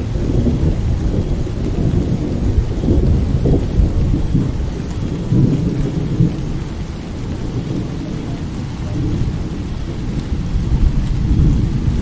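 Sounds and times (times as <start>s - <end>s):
crickets chirping: 0.0s - 10.4s
steady rain: 0.0s - 12.0s
thunder rumbling: 0.0s - 12.0s.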